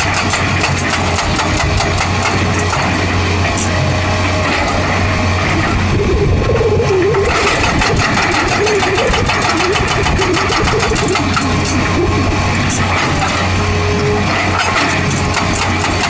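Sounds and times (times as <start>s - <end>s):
hydraulic breaker hammering: 0.0s - 5.9s, 7.0s - 16.0s
excavator engine running: 0.0s - 16.0s
hydraulic whine: 0.0s - 16.0s.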